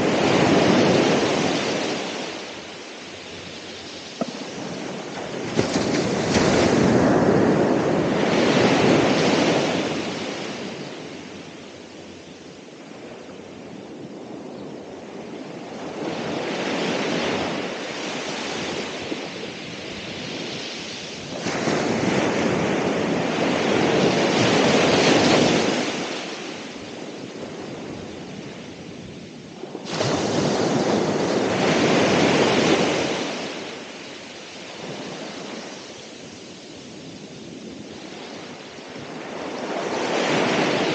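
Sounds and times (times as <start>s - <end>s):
waves crashing on shore: 0.0s - 12.0s, 15.6s - 40.9s.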